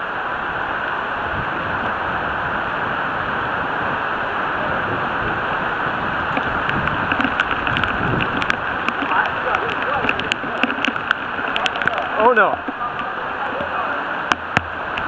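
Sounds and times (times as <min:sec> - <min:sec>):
bicycle rolling through water: 0:00.0 - 0:15.0
heavy rain hissing: 0:00.0 - 0:15.0.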